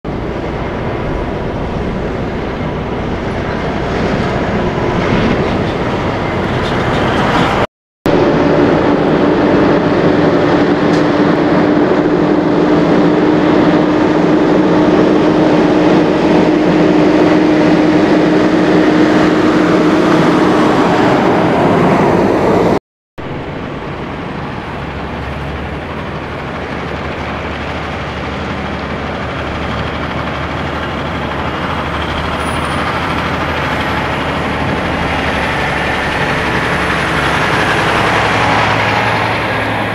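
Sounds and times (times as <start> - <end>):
steady whine: 0.1 - 39.9
truck diesel engines: 0.1 - 39.9.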